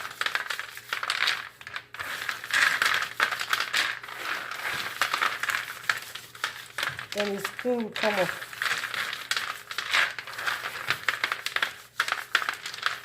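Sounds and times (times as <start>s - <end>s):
peanut skins crackling: 0.0s - 13.0s.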